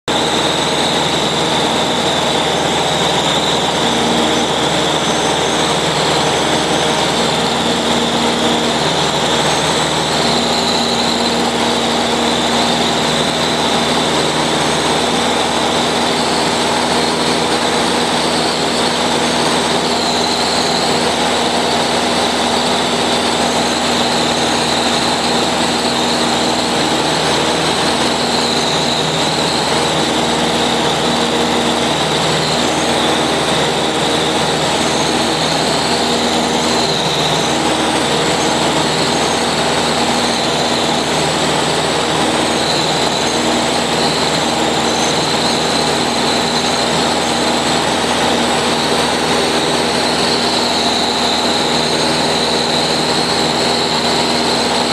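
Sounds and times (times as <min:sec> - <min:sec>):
airplane engine and propeller: 0:00.0 - 0:54.9.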